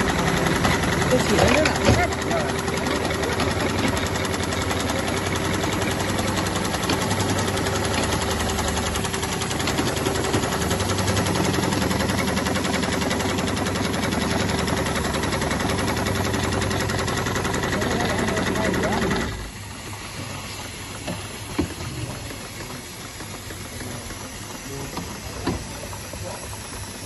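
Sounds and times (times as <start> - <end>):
industrial sewing machine stitching: 0.0 - 27.0
steady machine hum: 0.0 - 27.0.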